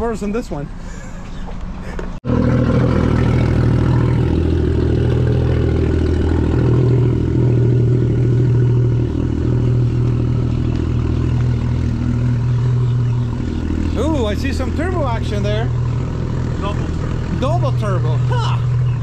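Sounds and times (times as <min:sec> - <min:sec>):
jet ski engine idling: 0:00.0 - 0:19.0.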